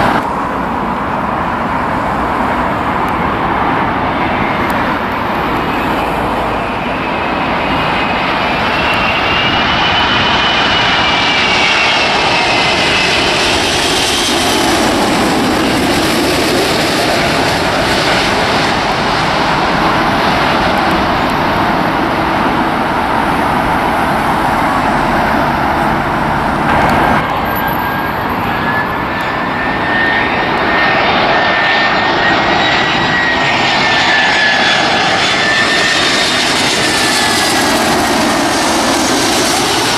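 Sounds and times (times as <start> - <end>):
jet airliner roar and whine: 0.0 - 39.9.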